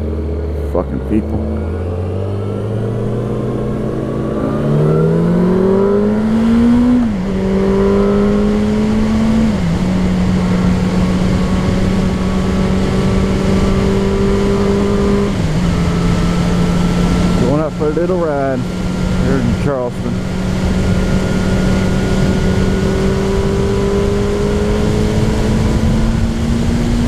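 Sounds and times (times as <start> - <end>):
motorcycle engine shifting gears: 0.0 - 27.0
wind and road noise: 0.0 - 27.0.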